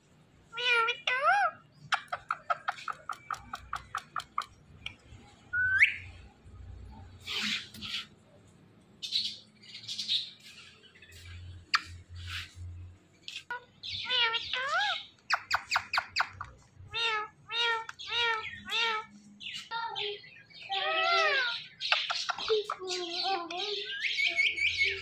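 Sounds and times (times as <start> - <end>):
parakeets calling: 0.5 - 4.6, 7.2 - 8.2, 9.0 - 12.6, 13.2 - 25.0.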